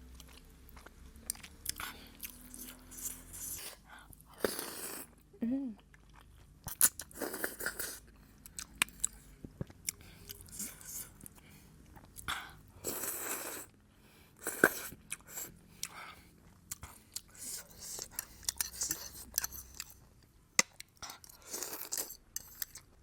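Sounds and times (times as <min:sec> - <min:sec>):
person chewing food: 0:00.0 - 0:05.2, 0:05.8 - 0:23.0.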